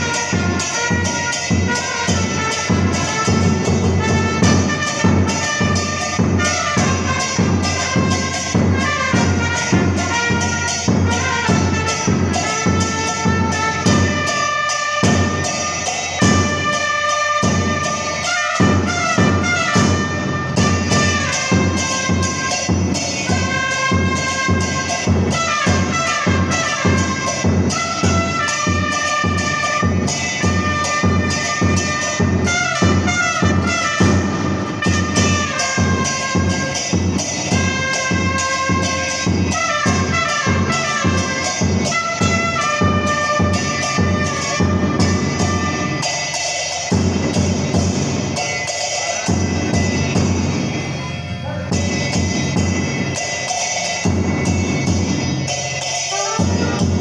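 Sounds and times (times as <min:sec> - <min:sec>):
trumpets playing a cumbia melody: 0:00.0 - 0:57.0.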